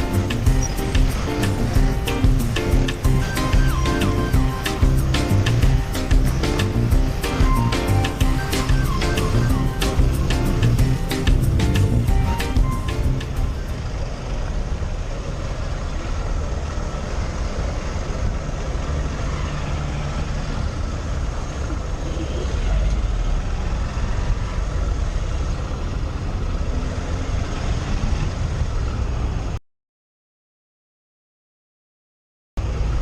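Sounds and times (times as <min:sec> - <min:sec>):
motorcycle engine rumble: 0:00.0 - 0:29.6
passing vehicles: 0:00.0 - 0:29.6, 0:32.6 - 0:33.0
wind and road noise: 0:00.0 - 0:29.6, 0:32.6 - 0:33.0.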